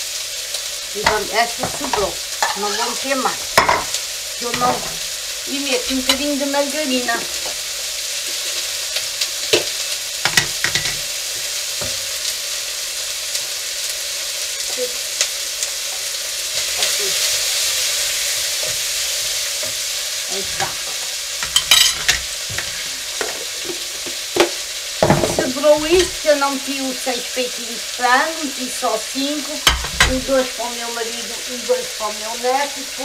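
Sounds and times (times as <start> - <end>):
onion sizzling in oil: 0.0 - 33.0.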